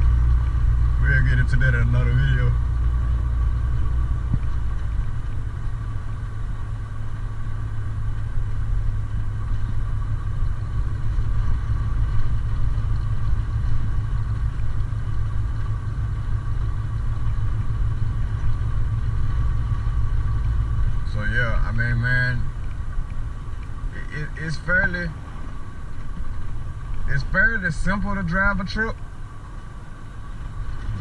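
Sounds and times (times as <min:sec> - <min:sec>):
engine whine: 0:00.0 - 0:31.0
truck diesel engine rumbling: 0:00.0 - 0:31.0.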